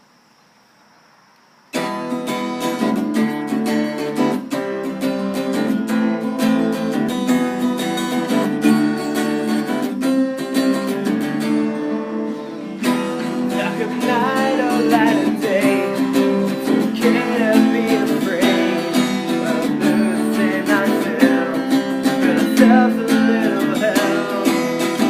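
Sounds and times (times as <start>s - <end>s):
acoustic guitar strumming chords: 1.8s - 25.0s.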